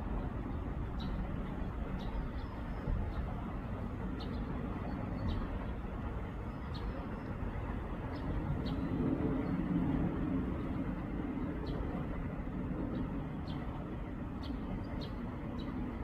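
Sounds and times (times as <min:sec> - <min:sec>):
low rumble of city traffic: 0:00.0 - 0:16.0.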